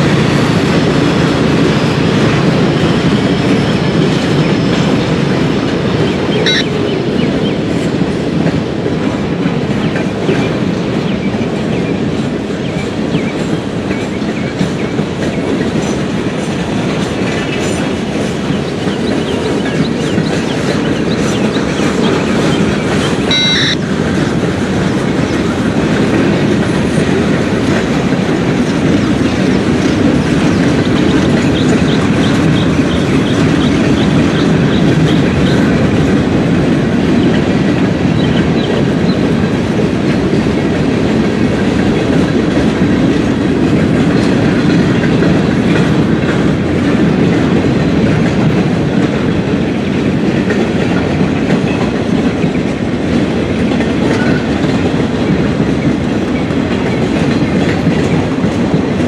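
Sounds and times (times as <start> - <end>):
train rumble: 0.0 - 59.0
train wheels clicking over rail joints: 0.0 - 59.0.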